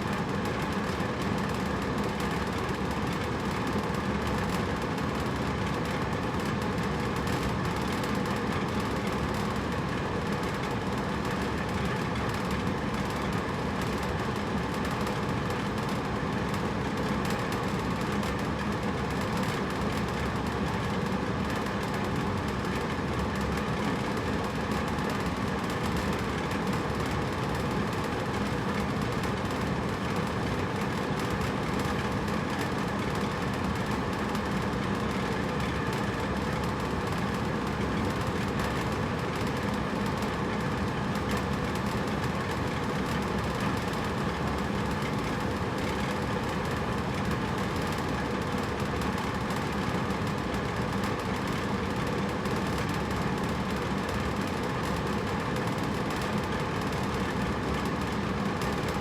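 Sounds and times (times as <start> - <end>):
air conditioner running: 0.0 - 59.0.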